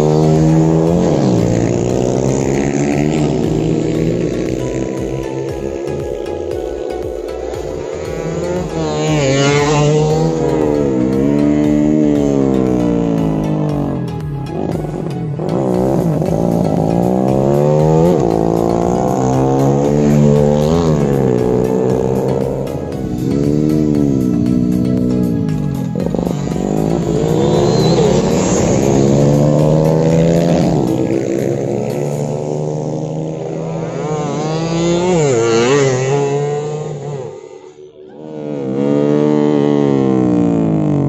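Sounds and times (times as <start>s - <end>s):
motorcycle engine revving hard: 0.0s - 41.0s.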